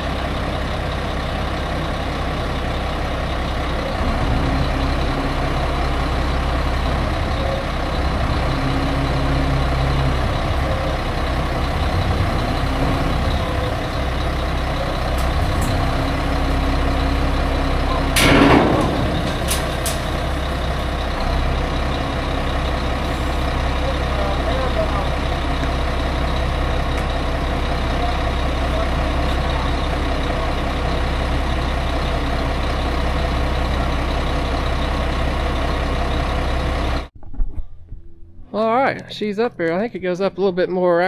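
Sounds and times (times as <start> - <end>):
diesel engine running: 0.0 - 37.2.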